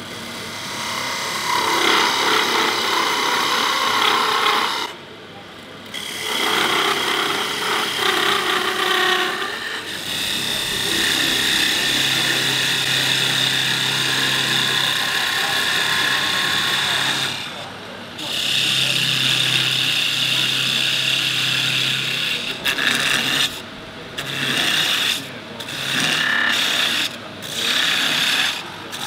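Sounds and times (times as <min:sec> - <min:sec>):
lathe motor hum: 0:00.0 - 0:04.9, 0:05.9 - 0:23.6, 0:24.2 - 0:29.0
lathe tool scraping wood: 0:00.0 - 0:05.0, 0:05.9 - 0:29.0.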